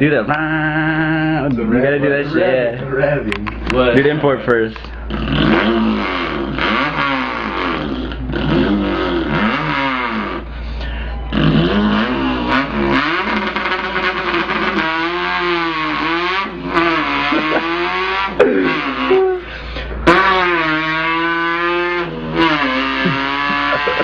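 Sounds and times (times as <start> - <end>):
man imitating car engine: 0.0 - 24.0.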